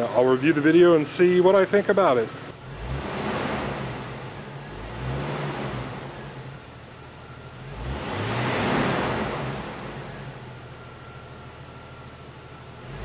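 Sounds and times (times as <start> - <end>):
car engine revving: 1.8 - 13.0.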